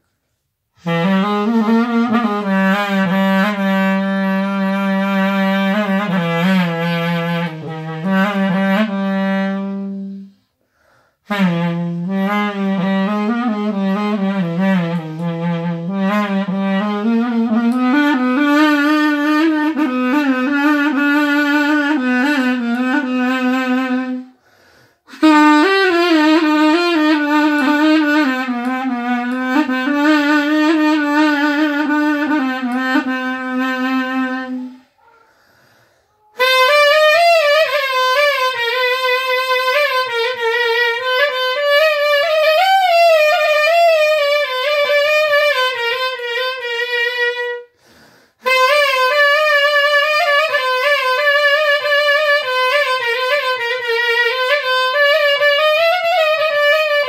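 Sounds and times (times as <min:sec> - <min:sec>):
solo clarinet melody: 0:00.0 - 0:10.6, 0:11.2 - 0:35.3, 0:36.0 - 0:57.0.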